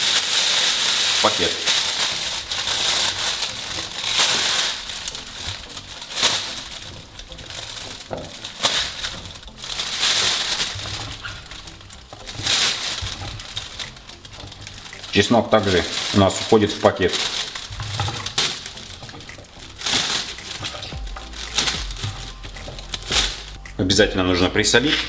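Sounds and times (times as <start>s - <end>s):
plastic bag crinkling: 0.0s - 25.0s
vegetables dropped into bag: 0.1s - 23.8s.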